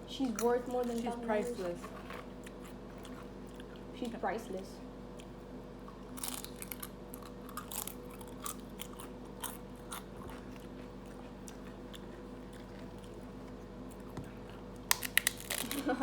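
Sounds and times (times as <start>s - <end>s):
steady low hum: 0.0s - 16.0s
person chewing crunchy food: 0.2s - 4.0s, 5.0s - 16.0s.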